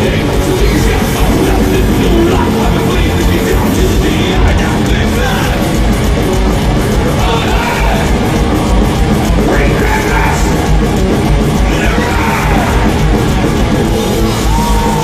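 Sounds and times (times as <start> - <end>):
distorted electric guitars: 0.0 - 15.0
fast driving drums: 0.0 - 15.0.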